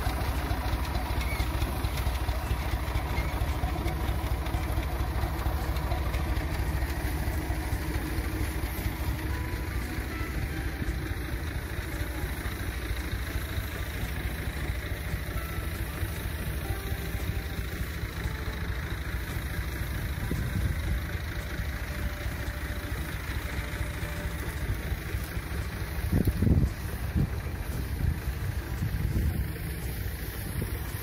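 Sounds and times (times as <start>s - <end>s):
sprayer hiss: 0.0s - 31.0s
tractor engine running: 0.0s - 31.0s.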